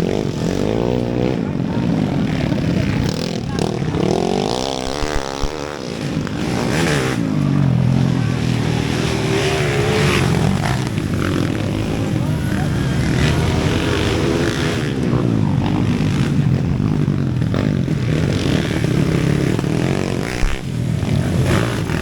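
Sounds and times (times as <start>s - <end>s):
motorcycle engines racing: 0.0s - 22.0s.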